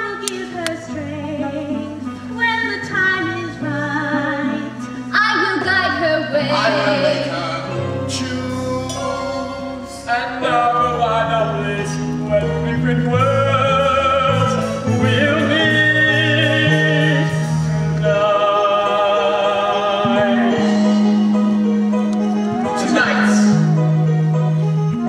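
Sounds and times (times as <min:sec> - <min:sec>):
person singing with vibrato: 0:00.0 - 0:21.4
orchestral accompaniment: 0:00.1 - 0:25.0.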